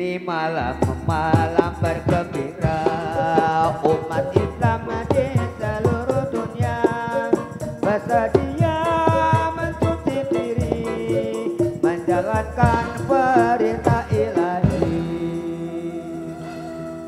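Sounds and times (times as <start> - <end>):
person singing melody: 0.0 - 17.0
drums steady beat: 0.7 - 15.7.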